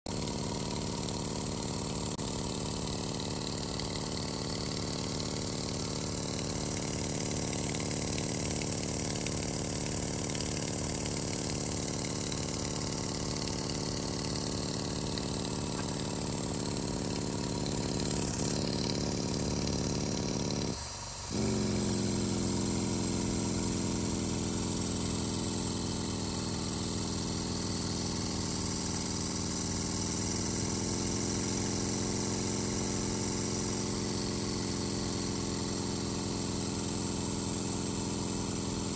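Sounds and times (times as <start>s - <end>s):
model engine running: 0.1s - 38.9s.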